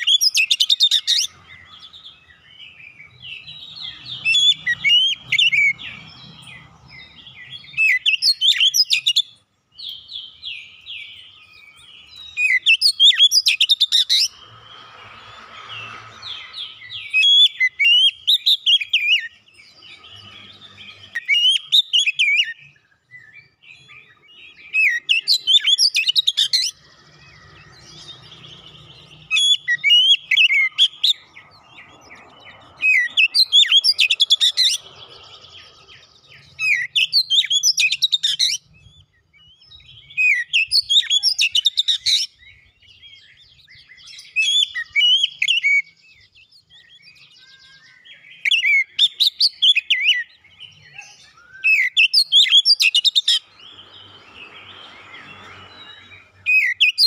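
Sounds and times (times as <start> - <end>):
bird singing whistles and chatter: 0.0 - 57.0.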